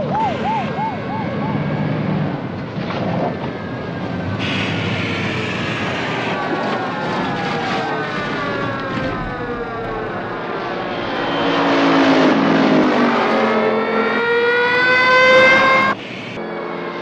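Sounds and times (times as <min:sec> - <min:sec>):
car engines passing by: 0:00.0 - 0:17.0.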